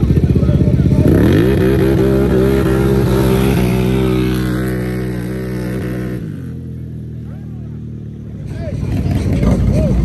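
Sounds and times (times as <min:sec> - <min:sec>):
quad engines revving: 0:00.0 - 0:10.0.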